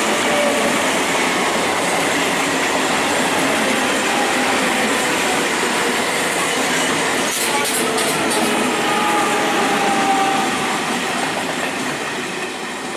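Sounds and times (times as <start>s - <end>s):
train rumbling over rails: 0.0s - 12.9s.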